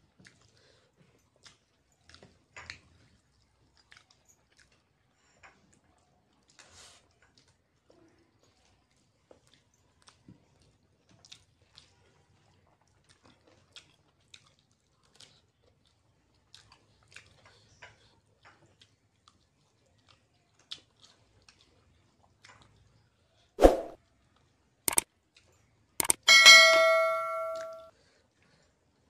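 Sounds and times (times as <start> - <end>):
chewing and biting food: 0.0 - 23.5.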